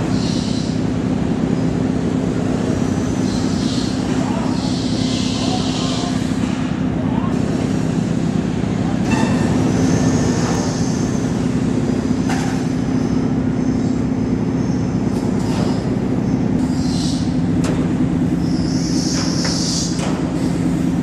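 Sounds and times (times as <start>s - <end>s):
heavy machinery engine drone: 0.0s - 21.0s.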